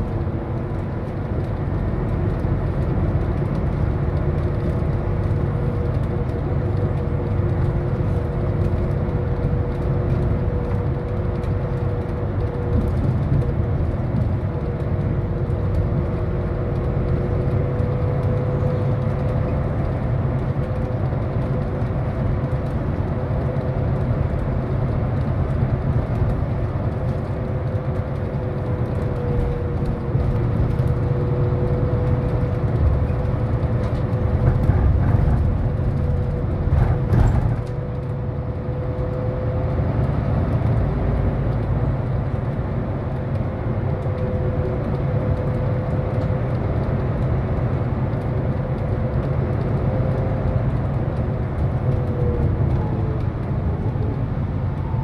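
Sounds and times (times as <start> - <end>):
bus engine and road rumble: 0.0 - 55.0
constant whine: 0.0 - 55.0.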